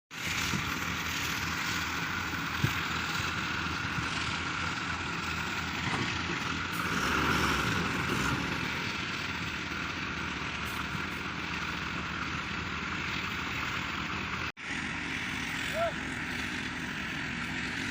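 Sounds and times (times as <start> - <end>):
heavy vehicle engine running: 0.1 - 17.9.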